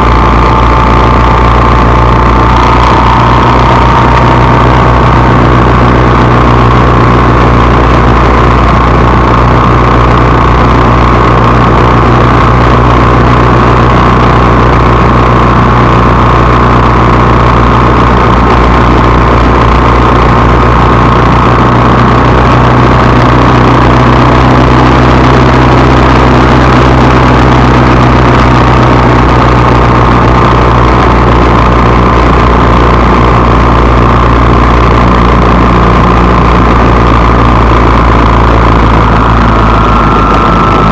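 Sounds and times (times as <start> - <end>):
loud vehicle engine drone: 0.0 - 40.9.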